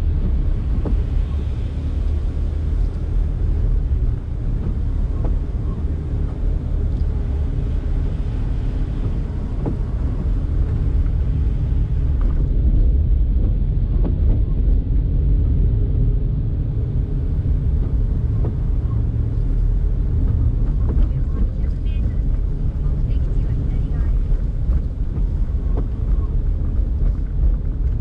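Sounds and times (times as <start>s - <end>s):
car engine rumble: 0.0s - 28.0s
road noise: 0.0s - 28.0s.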